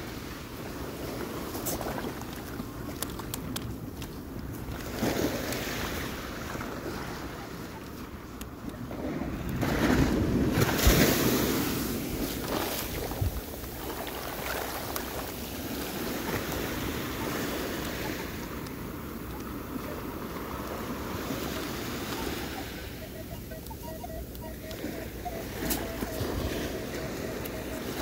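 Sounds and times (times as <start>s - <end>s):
ocean waves breaking: 0.0s - 28.0s
wind rumbling on microphone: 0.0s - 28.0s.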